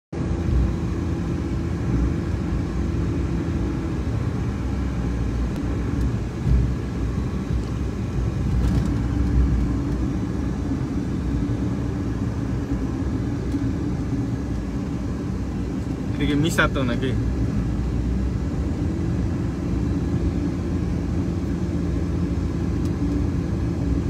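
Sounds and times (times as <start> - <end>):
car engine and tyres rumbling: 0.1 - 24.0.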